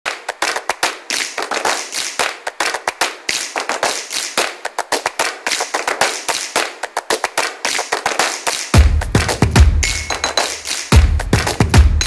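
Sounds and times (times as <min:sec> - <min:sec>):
hand claps: 0:00.0 - 0:12.0.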